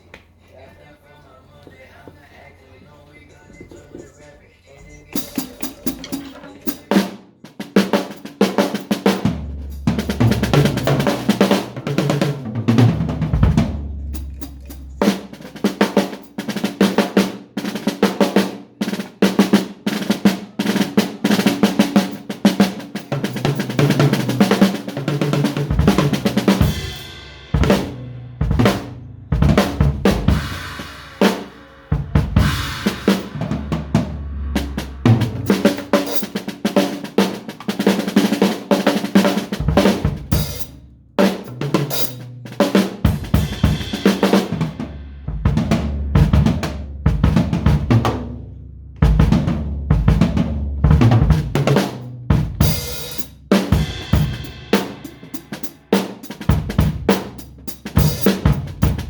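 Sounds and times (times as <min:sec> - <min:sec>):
drum kit playing: 0:04.8 - 0:59.0.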